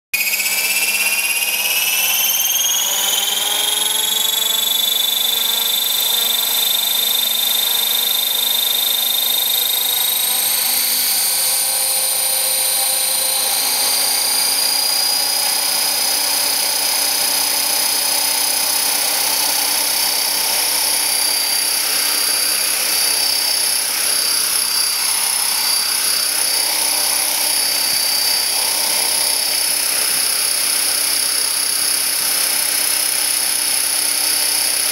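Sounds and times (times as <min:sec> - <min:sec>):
high electric motor whine: 0:00.2 - 0:34.9
rotor blade whoosh: 0:00.2 - 0:34.9.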